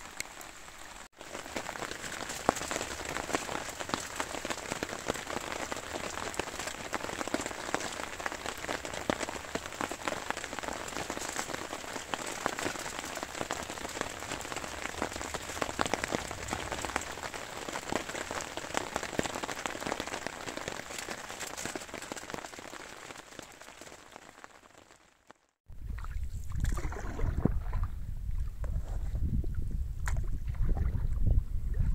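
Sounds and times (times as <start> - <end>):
steady rain falling: 0.0 - 25.6.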